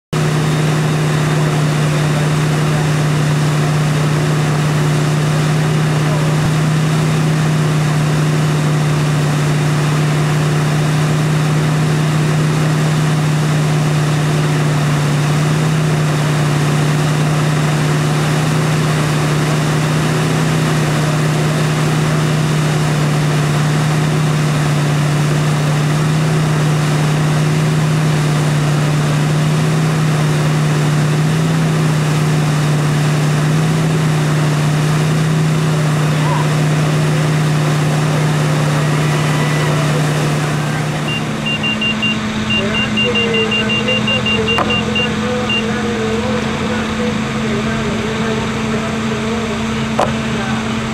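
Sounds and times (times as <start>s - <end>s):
water rushing: 0.1s - 47.1s
boat engine low drone: 0.1s - 50.9s.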